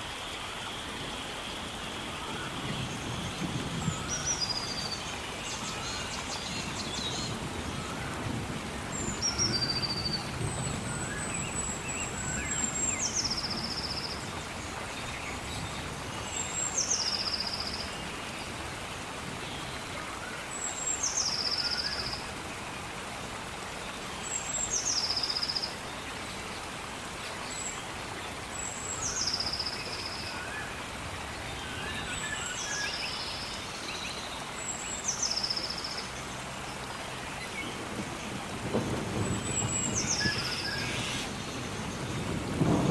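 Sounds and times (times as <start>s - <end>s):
rain hiss: 0.0s - 42.9s.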